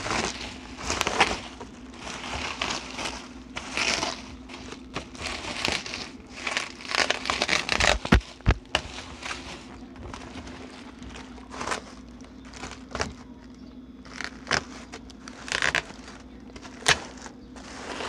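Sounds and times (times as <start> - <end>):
plastic wrapping rustling: 0.0 - 18.0
steady low hum: 0.0 - 18.0.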